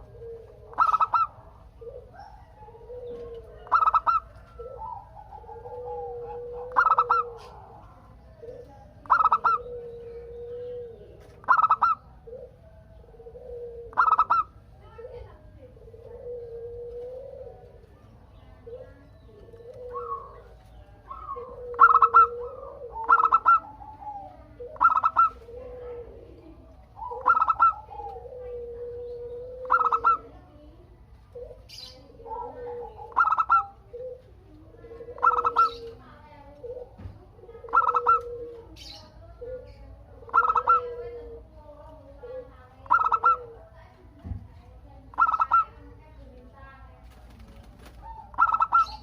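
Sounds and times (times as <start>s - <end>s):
dove cooing: 0.0s - 49.0s.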